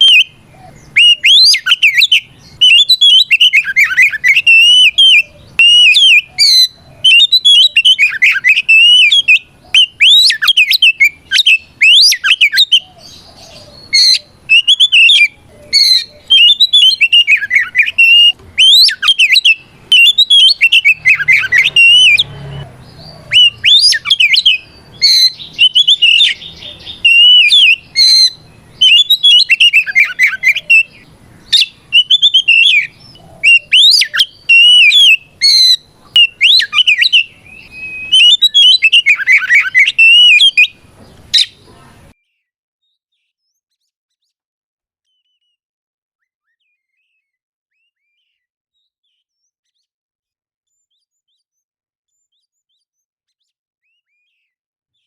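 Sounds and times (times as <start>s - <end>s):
magpie-robin singing whistled phrases: 0.0s - 44.4s, 45.1s - 45.6s, 46.2s - 49.9s, 50.7s - 55.0s.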